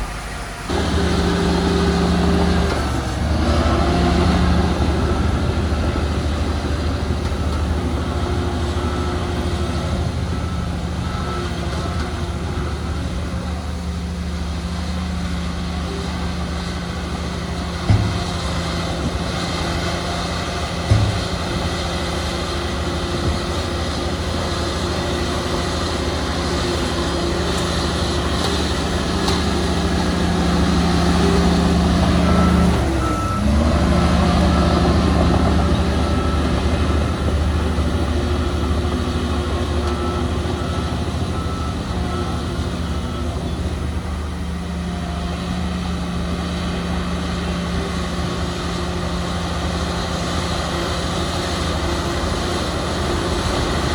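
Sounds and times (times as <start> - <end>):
diesel machinery engine running: 0.0 - 53.9
reversing alarm beeping: 0.0 - 53.9.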